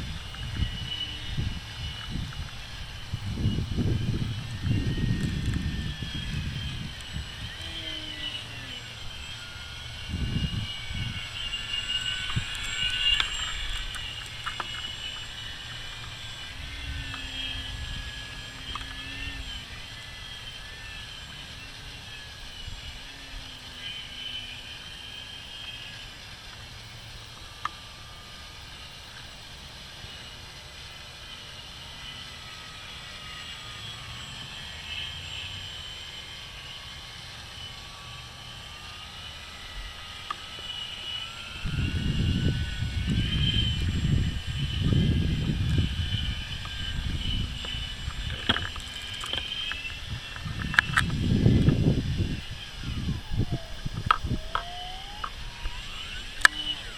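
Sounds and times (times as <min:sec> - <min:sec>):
model airplane motor whine: 0:00.0 - 0:56.9.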